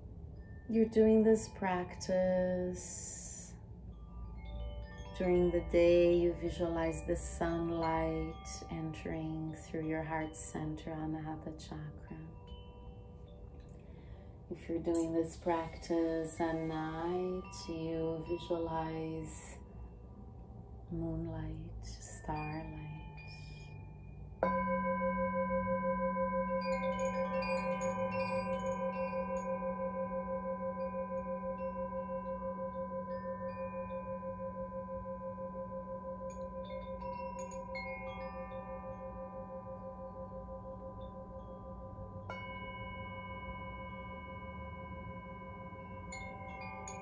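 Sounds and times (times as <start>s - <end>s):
singing bowl ringing: 0.0s - 47.0s
chime tinkling: 0.3s - 47.0s.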